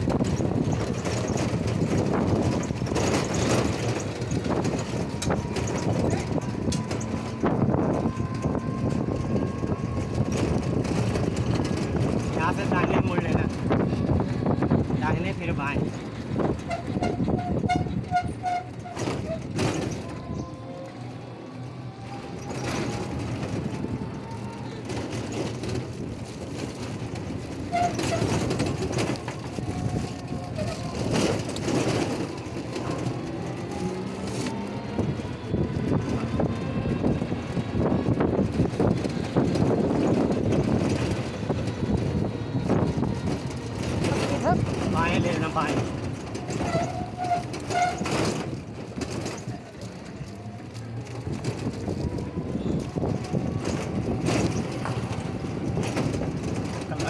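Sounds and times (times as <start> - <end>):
rickshaw vehicle and road noise: 0.0 - 57.0.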